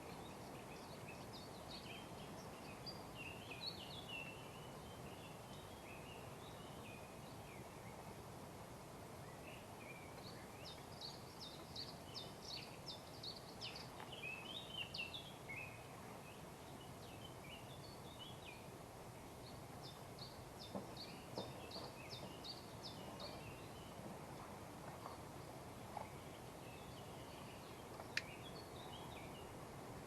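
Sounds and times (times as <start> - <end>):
songbird singing: 0.0 - 8.3, 9.2 - 30.0
outdoor background hiss: 0.0 - 30.0.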